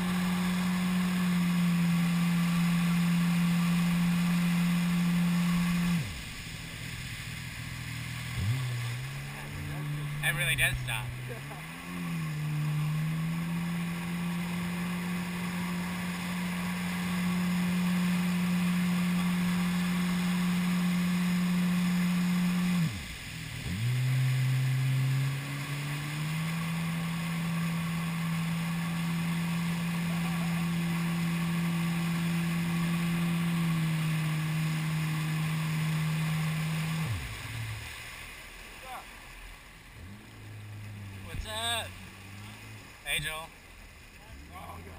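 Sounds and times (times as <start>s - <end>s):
jet ski engine running: 0.0s - 44.9s.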